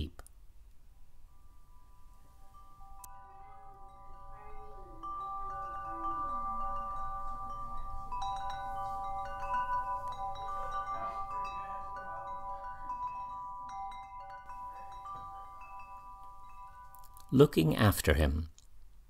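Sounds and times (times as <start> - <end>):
chimes ringing: 0.9 - 18.3.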